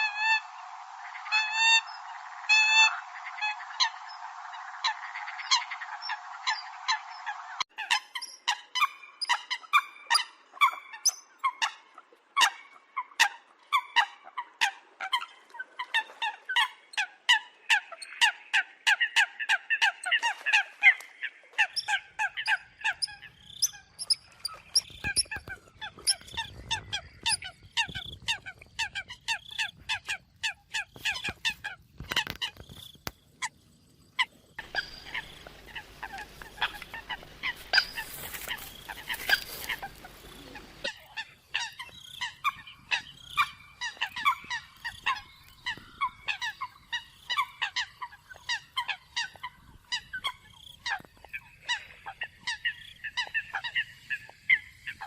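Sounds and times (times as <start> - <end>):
coots calling: 1.2 - 32.8, 34.2 - 55.0.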